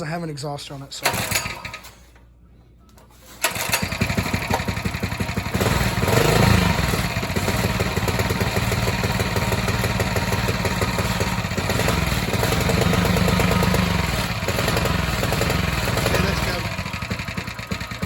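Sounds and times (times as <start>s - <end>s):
small engine running loud and raw: 3.5s - 18.0s.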